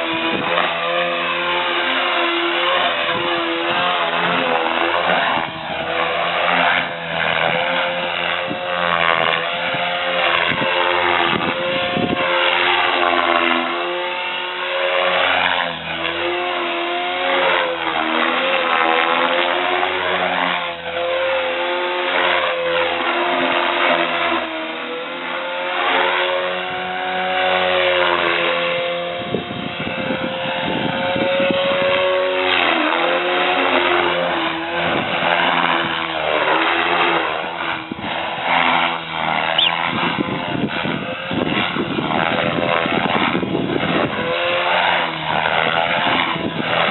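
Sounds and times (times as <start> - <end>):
rc helicopter rotor and motor hum: 0.0 - 46.9.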